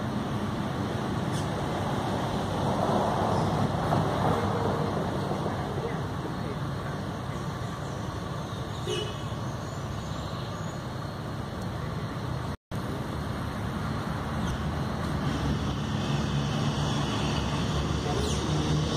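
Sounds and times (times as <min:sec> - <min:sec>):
road traffic rumble: 0:00.0 - 0:18.9.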